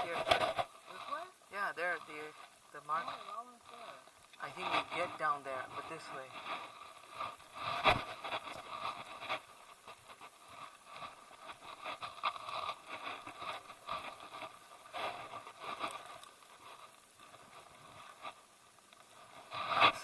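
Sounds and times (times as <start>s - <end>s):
rustling and scraping: 0.0s - 20.0s.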